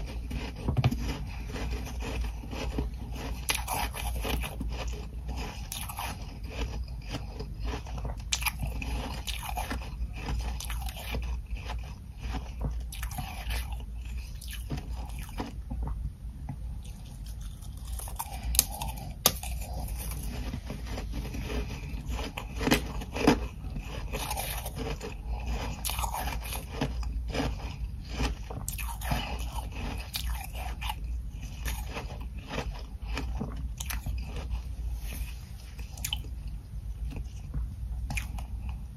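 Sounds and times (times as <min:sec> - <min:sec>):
ice being chewed: 0:00.0 - 0:16.0, 0:16.8 - 0:38.9.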